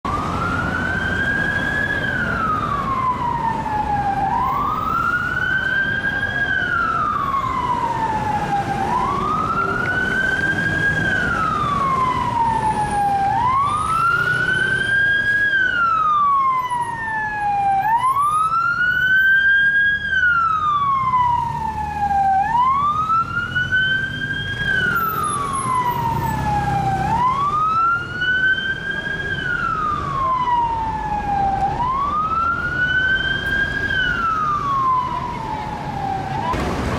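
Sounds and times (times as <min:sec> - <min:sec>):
police siren wailing: 0:00.0 - 0:36.8
road traffic rumble: 0:00.0 - 0:36.9.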